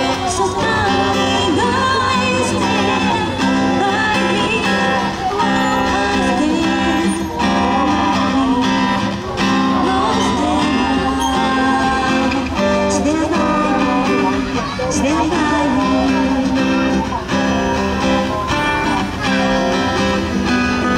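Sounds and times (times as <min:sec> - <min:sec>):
person singing: 0:00.0 - 0:20.1
acoustic guitar: 0:00.0 - 0:20.9.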